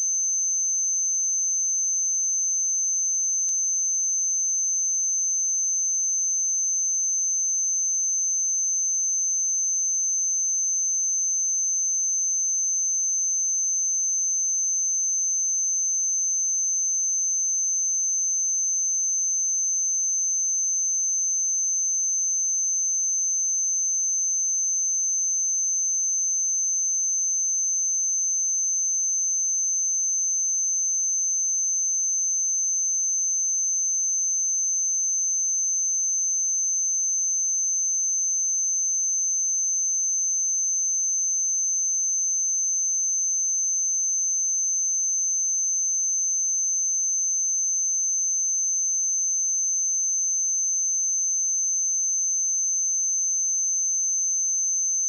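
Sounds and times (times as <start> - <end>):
high-pitched sine-wave test tone: 0.0 - 55.0.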